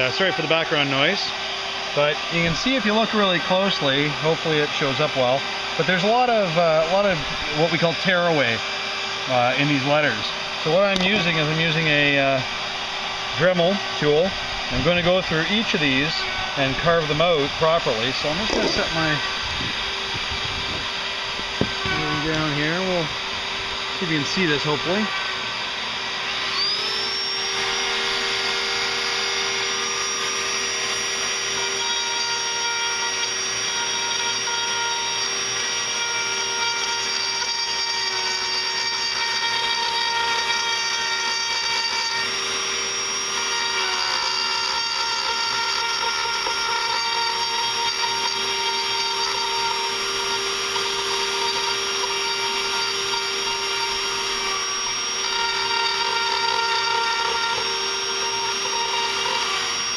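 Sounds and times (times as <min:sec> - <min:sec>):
rotary tool whining: 0:00.0 - 0:59.9.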